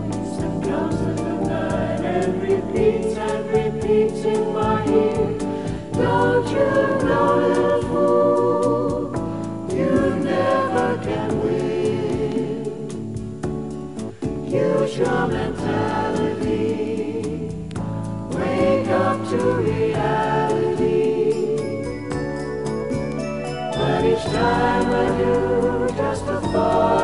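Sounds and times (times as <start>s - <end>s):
choir singing: 0.0s - 13.5s, 14.1s - 22.3s, 23.5s - 27.0s
orchestral backing with steady beat: 0.0s - 27.0s.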